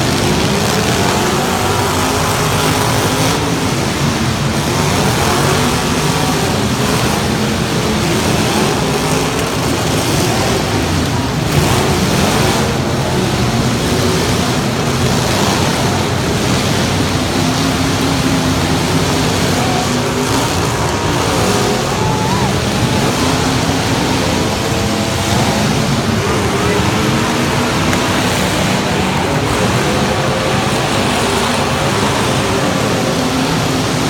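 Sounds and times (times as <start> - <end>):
truck engine at high revs: 0.0 - 34.0.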